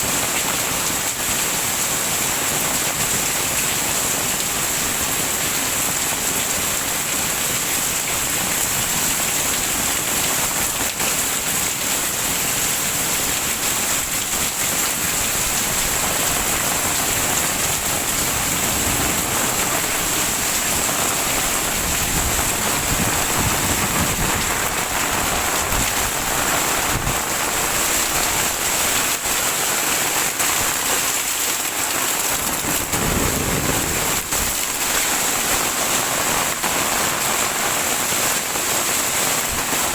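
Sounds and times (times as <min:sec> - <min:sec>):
heavy rain spattering: 0:00.0 - 0:39.9.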